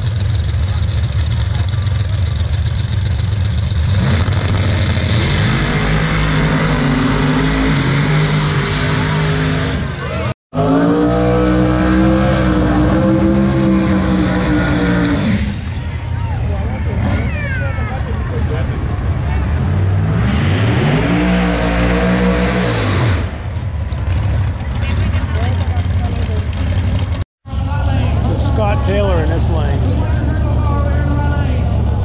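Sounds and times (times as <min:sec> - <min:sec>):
drag race car engines revving: 0:00.0 - 0:32.0.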